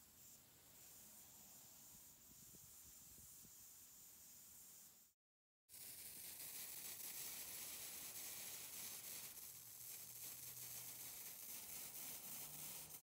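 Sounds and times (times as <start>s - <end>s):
compressed air hissing from sprinkler: 0.0s - 13.0s.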